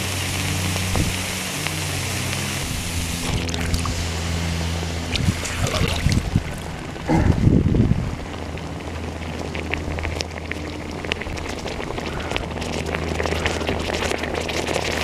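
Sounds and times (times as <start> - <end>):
boiling pops: 0.0 - 15.0
broth sizzling and crackling: 0.0 - 15.0
steady low hum: 0.0 - 15.0.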